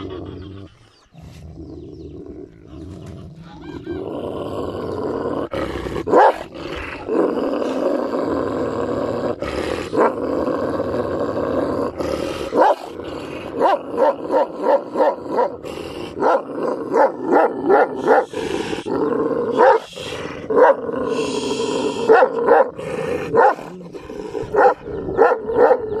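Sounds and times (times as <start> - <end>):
dog growling: 0.0 - 26.0
dogs barking and snarling: 0.0 - 26.0.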